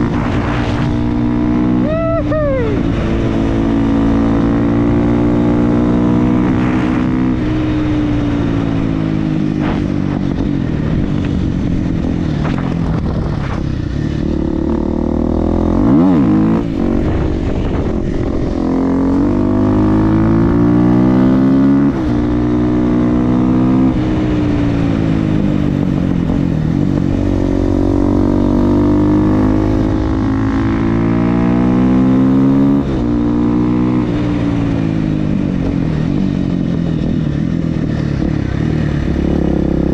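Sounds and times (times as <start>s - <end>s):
motorcycle accelerating and shifting gears: 0.0s - 39.9s.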